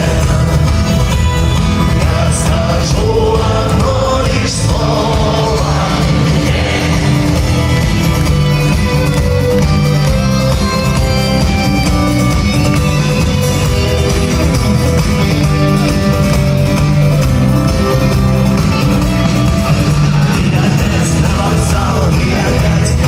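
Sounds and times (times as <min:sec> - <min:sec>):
instrumental band music: 0:00.0 - 0:23.0.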